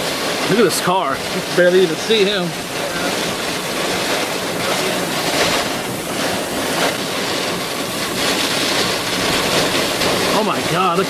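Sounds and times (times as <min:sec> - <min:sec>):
driving rain: 0:00.0 - 0:11.0
wind buffeting microphone: 0:00.0 - 0:11.0.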